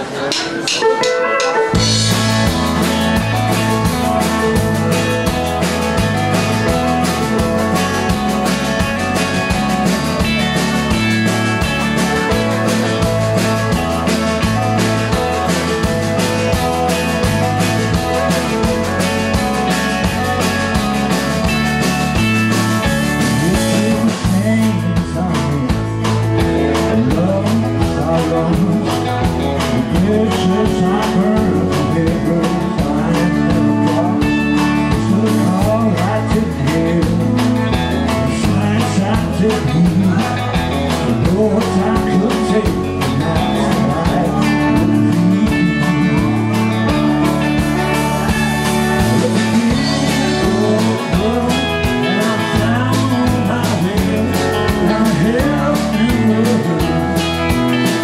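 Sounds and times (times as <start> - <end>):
acoustic guitar: 0.0 - 58.0
drums: 0.0 - 58.0
man singing: 0.0 - 58.0
pedal steel guitar: 0.2 - 58.0
electric bass: 1.3 - 58.0.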